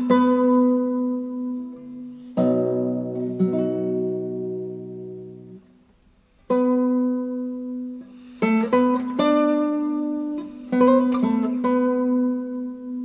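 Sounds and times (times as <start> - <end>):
plucked acoustic guitar: 0.0 - 13.0.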